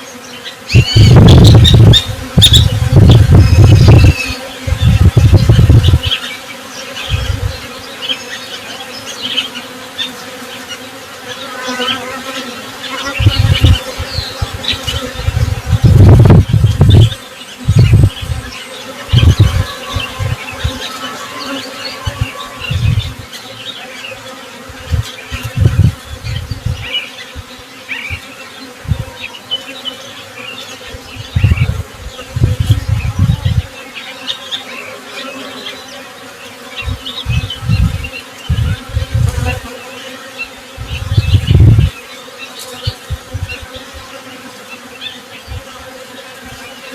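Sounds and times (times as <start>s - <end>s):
birds chirping: 0.0s - 46.9s
honey bees buzzing: 0.0s - 46.9s.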